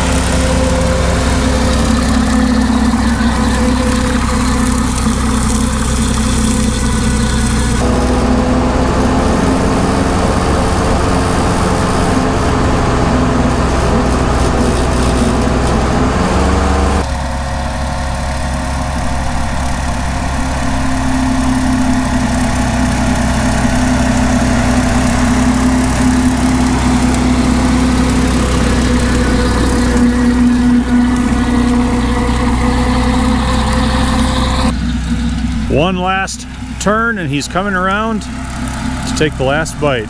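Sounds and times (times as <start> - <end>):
rotary mower cutting grass: 0.0 - 40.0
tractor engine running: 0.0 - 40.0.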